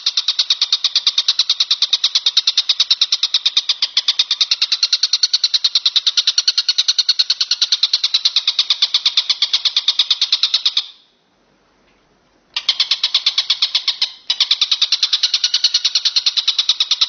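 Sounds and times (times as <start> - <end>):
bush cricket chirring: 0.0 - 11.0, 12.6 - 17.0.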